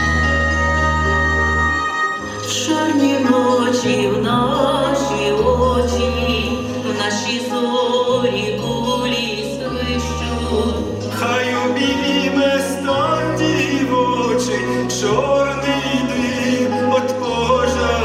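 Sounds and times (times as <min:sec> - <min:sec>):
bass notes: 0:00.0 - 0:18.0.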